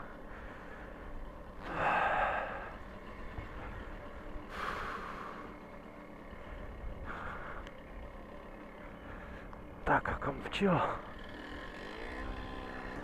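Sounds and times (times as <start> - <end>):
wind and road rumble: 0.0 - 13.0.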